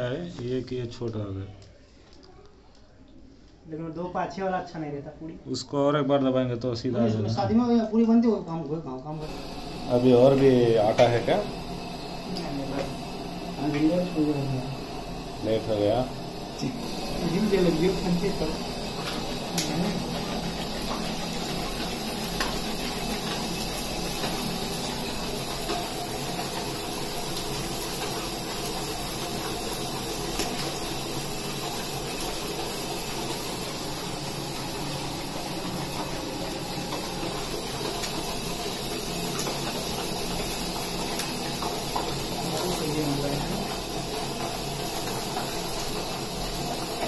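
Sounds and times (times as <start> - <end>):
hot oil sizzling and bubbling: 9.1 - 47.0.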